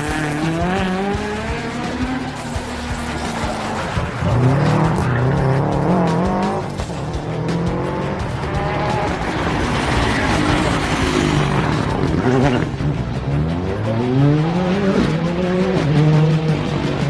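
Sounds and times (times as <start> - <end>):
rally car engine revving: 0.0 - 17.0
tyre noise: 0.0 - 17.0.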